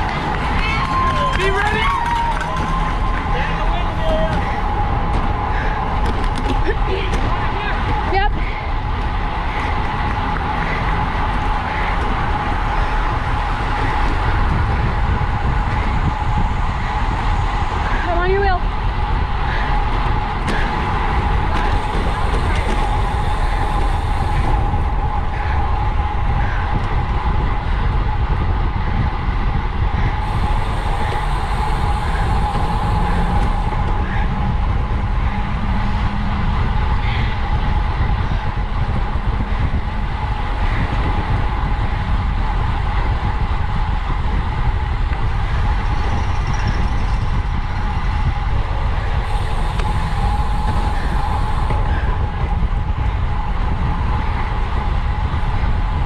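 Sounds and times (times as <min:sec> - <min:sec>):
high hum: 0:00.0 - 0:56.0
wind rushing over microphone: 0:00.0 - 0:56.0.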